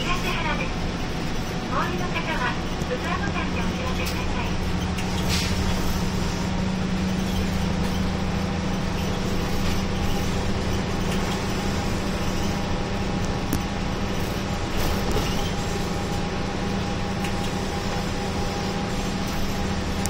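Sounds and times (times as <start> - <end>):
bus engine hum: 0.0 - 20.0.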